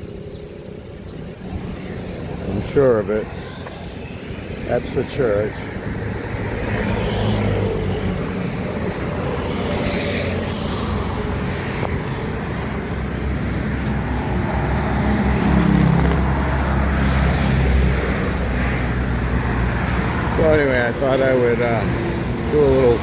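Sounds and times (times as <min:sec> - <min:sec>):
vehicles passing on road: 0:00.0 - 0:23.0.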